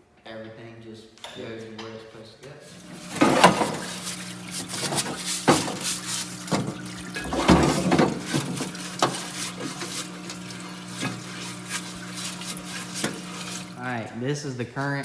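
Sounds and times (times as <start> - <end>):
electrical hum: 2.6 - 15.0.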